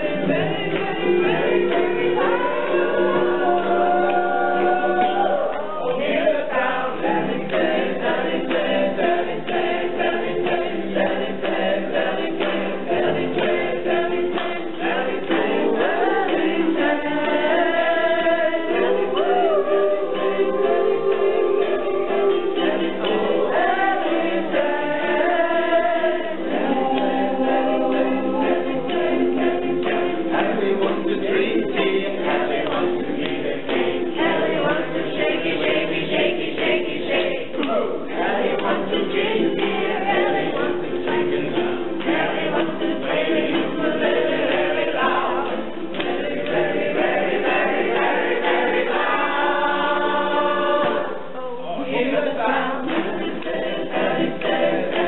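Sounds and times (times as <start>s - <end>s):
group singing: 0.0s - 55.0s
ukuleles strumming: 0.0s - 55.0s.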